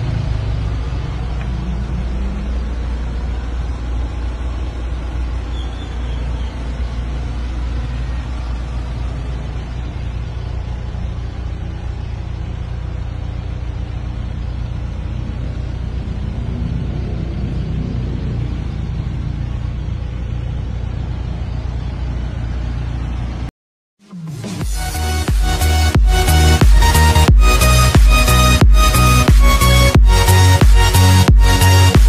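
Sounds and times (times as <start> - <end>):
diesel engine rumbling: 0.0 - 23.5, 24.4 - 32.0.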